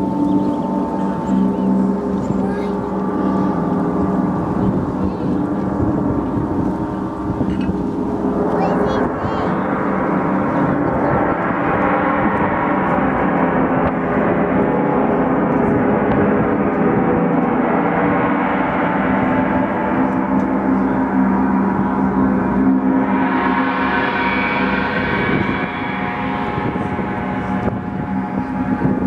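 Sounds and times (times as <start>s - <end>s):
singing bowls ringing: 0.0s - 15.6s, 17.8s - 29.0s
gong ringing: 0.0s - 29.0s.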